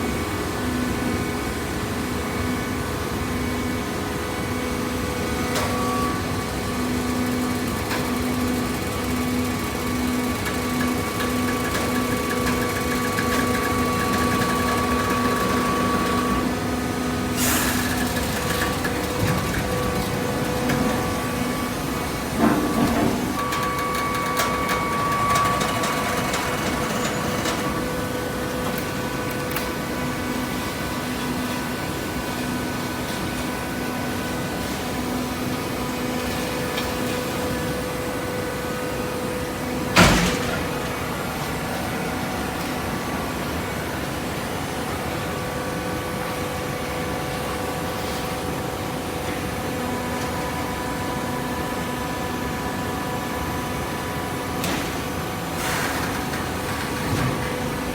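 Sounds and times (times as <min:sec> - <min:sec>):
hydraulic power unit humming: 0:00.0 - 0:57.9.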